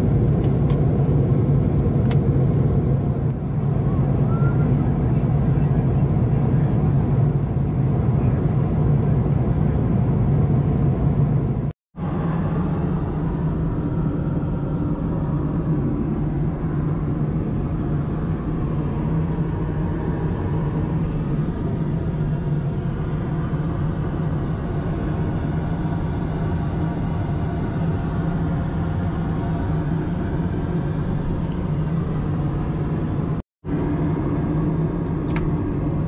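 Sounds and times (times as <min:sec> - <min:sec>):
airplane engine hum: 0:00.0 - 0:36.0.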